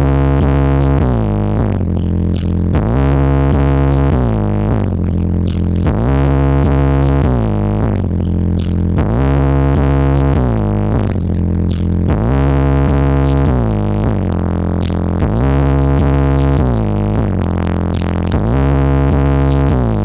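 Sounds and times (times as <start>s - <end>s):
loud electronic music: 0.0s - 20.0s.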